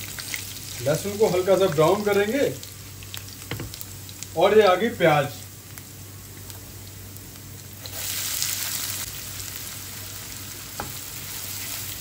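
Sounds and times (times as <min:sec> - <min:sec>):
onion frying in oil: 0:00.0 - 0:12.0.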